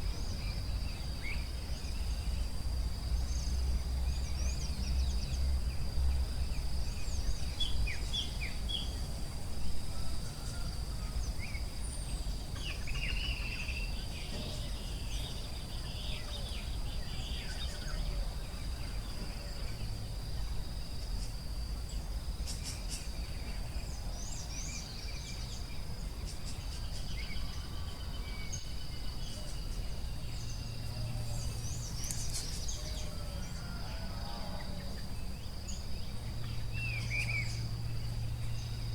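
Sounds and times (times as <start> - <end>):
insect drone: 0.0 - 38.9.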